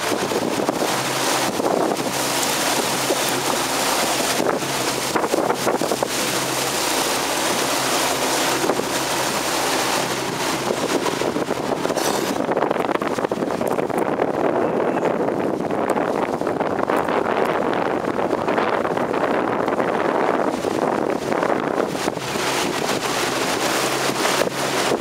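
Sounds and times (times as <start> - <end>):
outboard motor running: 0.0 - 25.0
water rushing past hull: 0.0 - 25.0
wind buffeting microphone: 0.0 - 25.0.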